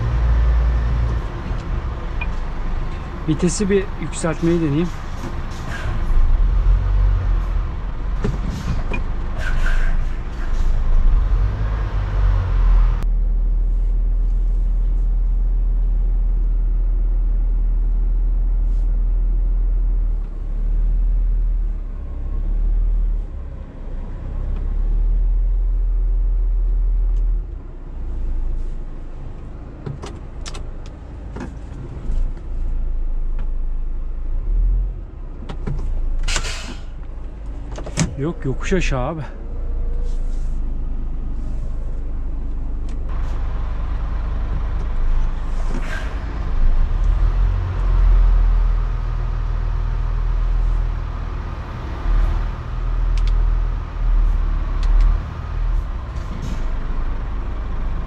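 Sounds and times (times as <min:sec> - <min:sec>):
truck diesel engine under load: 0:00.0 - 0:58.0.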